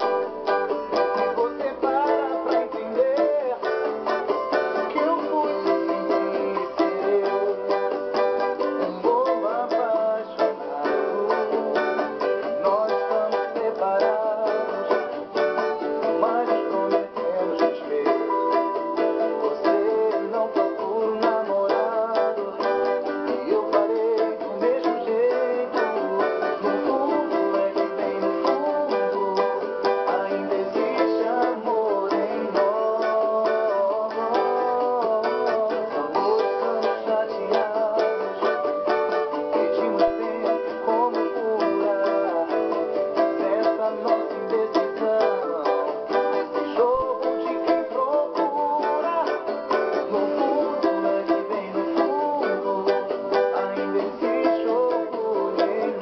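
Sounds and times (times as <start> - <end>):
small guitar strummed rapidly: 0.0 - 56.0.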